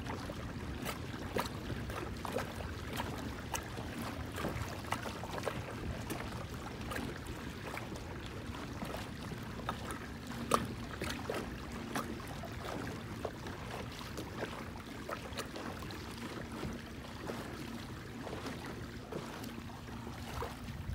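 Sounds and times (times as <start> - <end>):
water lapping against a kayak hull: 0.0 - 20.9.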